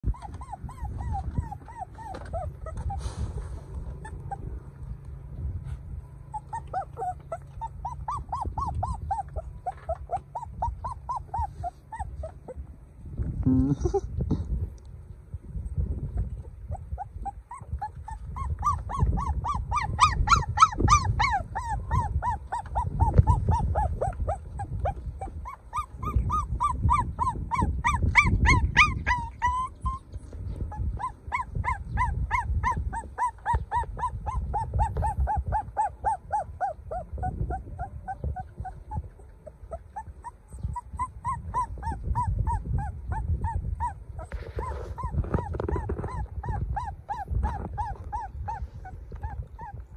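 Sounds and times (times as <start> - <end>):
puppy whimpering: 0.0 - 4.7, 6.2 - 12.7, 16.1 - 49.9.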